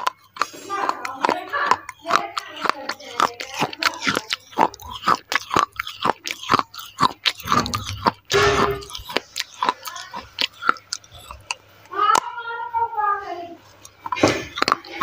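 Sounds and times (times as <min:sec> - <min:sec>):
clay pieces crunching while chewed: 0:00.0 - 0:12.3, 0:13.6 - 0:15.0.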